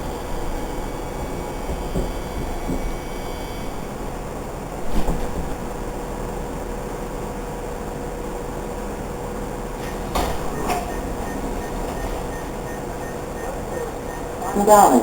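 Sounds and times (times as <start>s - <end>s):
subway car hum: 0.0s - 15.0s.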